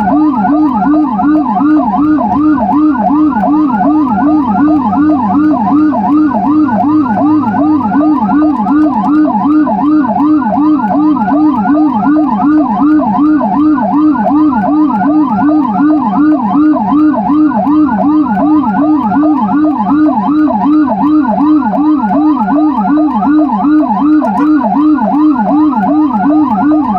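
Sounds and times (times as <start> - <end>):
high-pitched yelp siren: 0.0 - 26.9
low-pitched yelp siren: 0.0 - 26.9.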